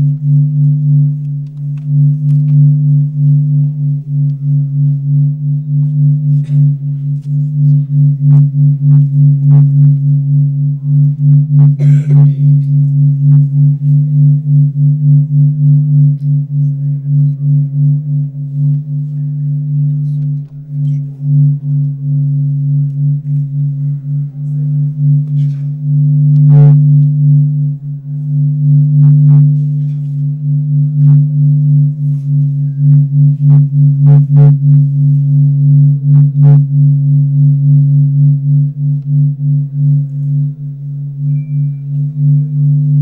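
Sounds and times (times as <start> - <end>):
droning music: 0.0 - 43.0.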